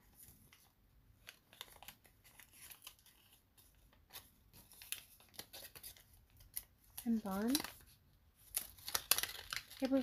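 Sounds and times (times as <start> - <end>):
paper crackling and rustling: 0.0 - 10.0
soft paper clicks: 0.2 - 10.0.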